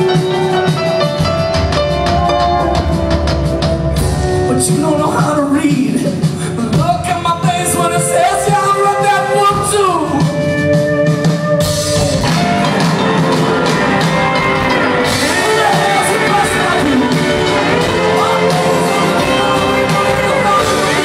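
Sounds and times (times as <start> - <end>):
distant live rock band: 0.0 - 21.0.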